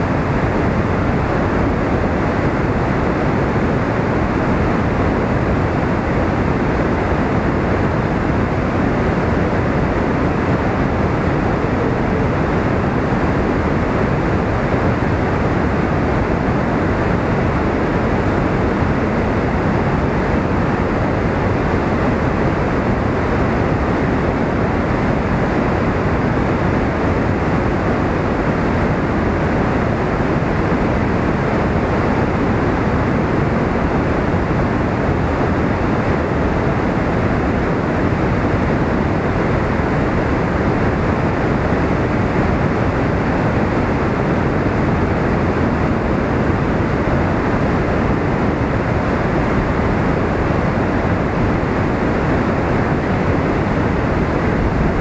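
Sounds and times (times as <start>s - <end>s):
water rushing over a dam spillway: 0.0s - 55.0s.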